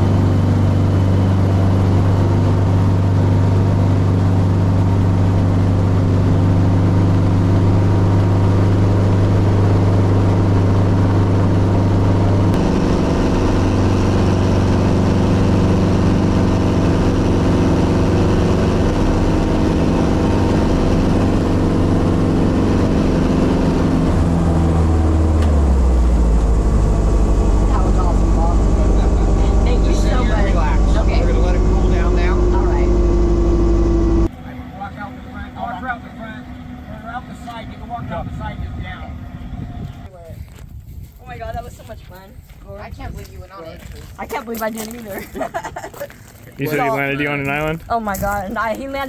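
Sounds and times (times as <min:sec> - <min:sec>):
helicopter engine and rotor: 0:00.0 - 0:40.1, 0:46.6 - 0:47.7.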